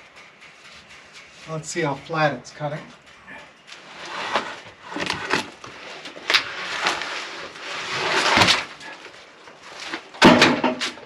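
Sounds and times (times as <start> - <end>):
scraping rustle: 0.0 - 11.0.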